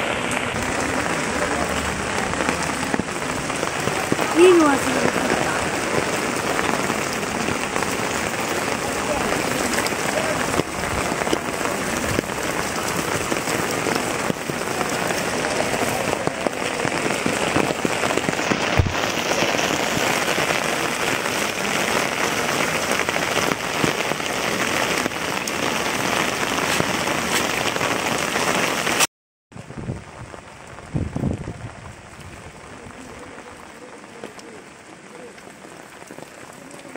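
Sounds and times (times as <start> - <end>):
rain falling on water: 0.0 - 36.9.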